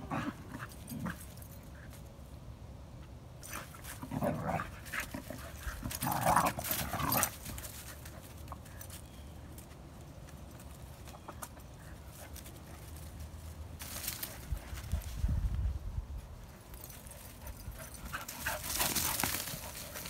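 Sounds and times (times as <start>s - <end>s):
dogs playing: 0.0s - 2.4s, 3.4s - 15.3s, 16.2s - 20.0s
scuffling through dry leaves: 3.6s - 20.0s.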